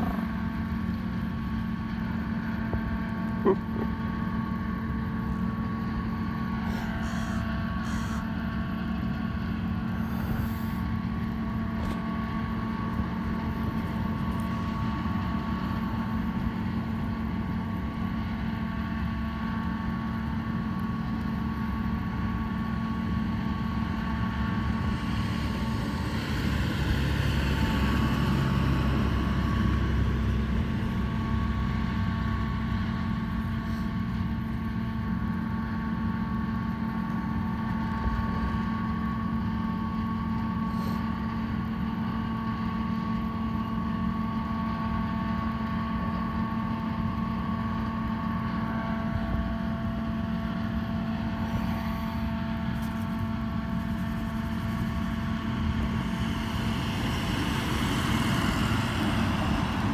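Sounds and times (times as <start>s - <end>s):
low street traffic rumble: 0.0s - 44.2s, 48.2s - 59.9s
steady mechanical hum: 0.0s - 59.9s.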